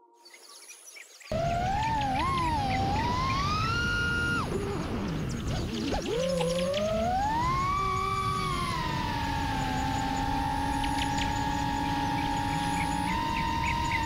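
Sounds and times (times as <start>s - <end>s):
quadcopter motors whining: 1.3s - 14.0s.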